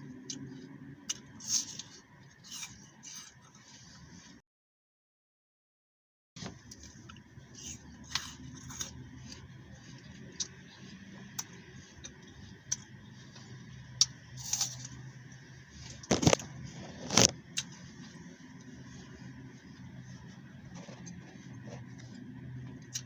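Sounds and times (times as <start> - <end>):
person chewing crisp apple: 0.1 - 3.6, 7.1 - 15.1, 15.9 - 23.0.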